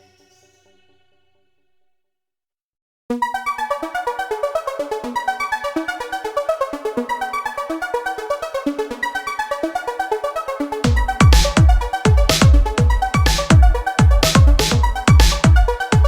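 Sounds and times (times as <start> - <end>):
synthesizer electronic music: 0.0 - 1.4, 3.1 - 16.0.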